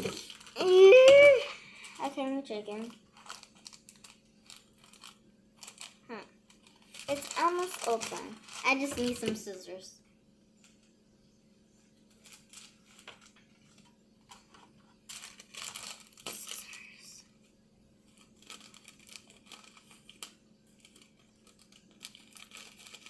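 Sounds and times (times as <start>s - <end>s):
packet crinkling and tearing: 0.0s - 9.4s, 12.1s - 17.1s, 18.1s - 23.0s.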